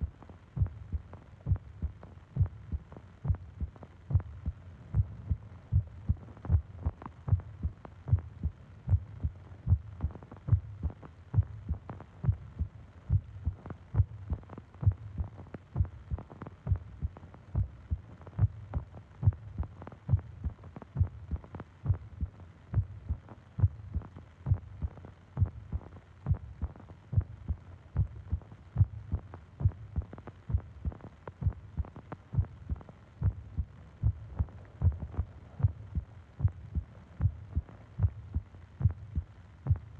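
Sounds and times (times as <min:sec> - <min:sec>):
heartbeat thumps: 0:00.6 - 0:39.9.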